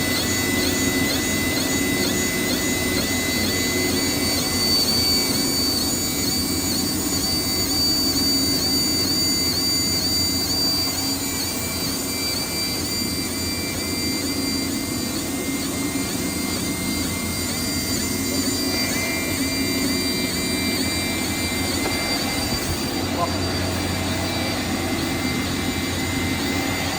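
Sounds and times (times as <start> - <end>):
laser marking machine whining: 0.0 - 26.9
production line mechanical hum: 0.0 - 26.9.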